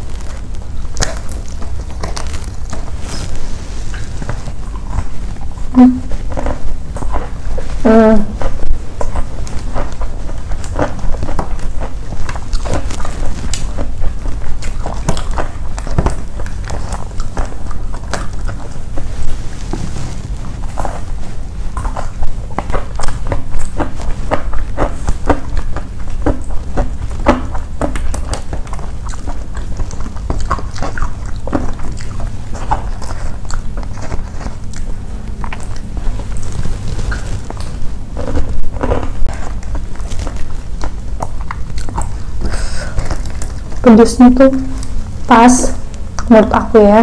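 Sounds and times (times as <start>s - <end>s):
crackling of crispy food: 0.0s - 47.0s
crunchy chewing: 0.0s - 47.0s
low hum: 0.0s - 47.0s.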